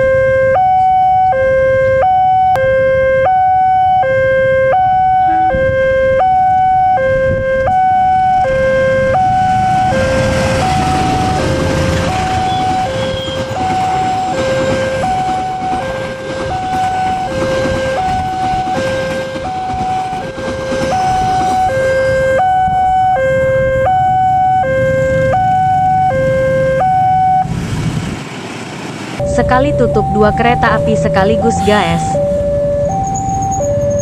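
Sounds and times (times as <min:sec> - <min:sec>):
two-tone crossing alarm: 0:00.0 - 0:27.5, 0:29.2 - 0:34.0
passing train rumble: 0:04.7 - 0:34.0.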